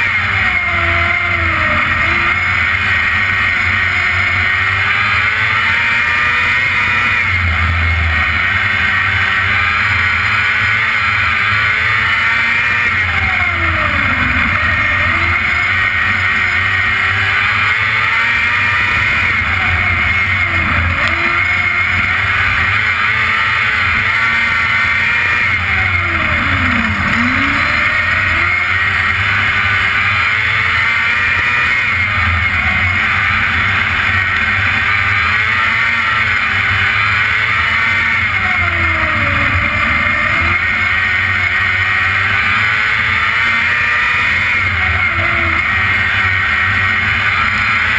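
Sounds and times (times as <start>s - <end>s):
racing engine running hard: 0.0s - 47.9s.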